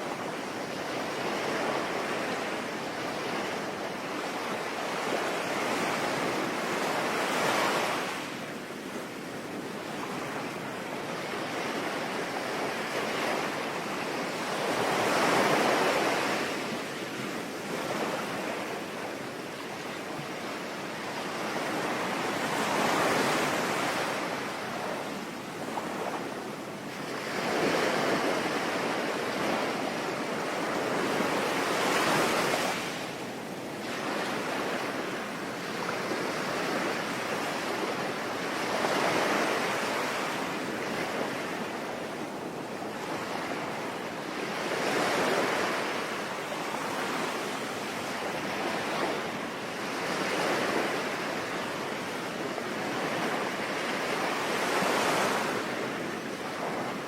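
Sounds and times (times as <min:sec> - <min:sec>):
sea waves breaking: 0:09.4 - 0:57.0.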